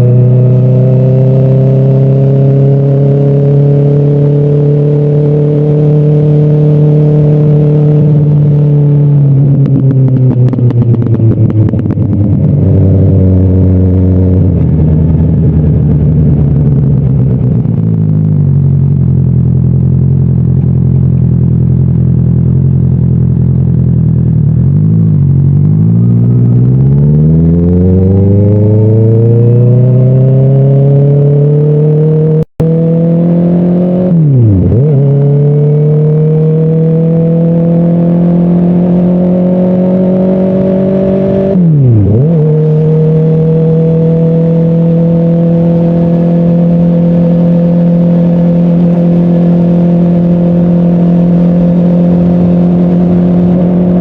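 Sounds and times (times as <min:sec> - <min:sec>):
motorcycle engine and exhaust: 0:00.0 - 0:54.0
exhaust crackling: 0:05.4 - 0:54.0.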